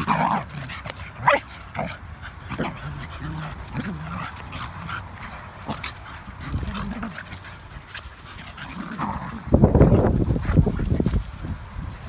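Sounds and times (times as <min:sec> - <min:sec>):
dogs growling: 0:00.0 - 0:11.2
dogs panting: 0:00.0 - 0:11.7
paws scuffling on gravel and leaves: 0:00.0 - 0:12.0.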